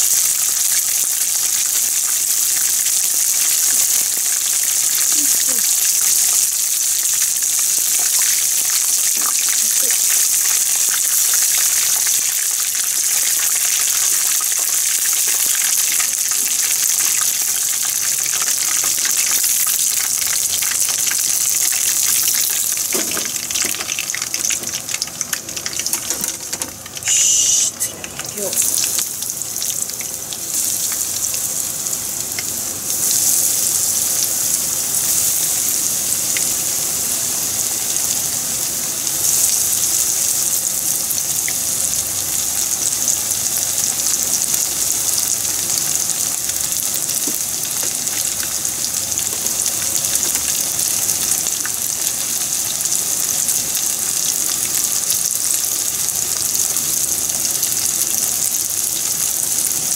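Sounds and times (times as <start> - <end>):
hot oil sizzling: 0.0 - 59.9.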